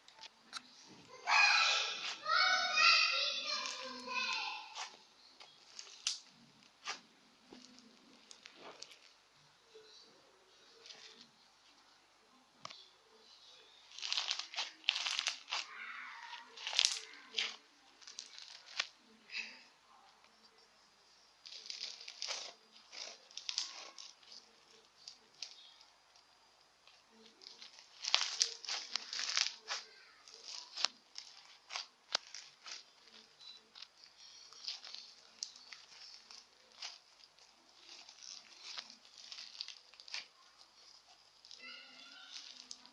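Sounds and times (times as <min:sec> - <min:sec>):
slime crackling and crunching: 0:01.3 - 0:09.2, 0:13.7 - 0:19.0, 0:21.4 - 0:42.9.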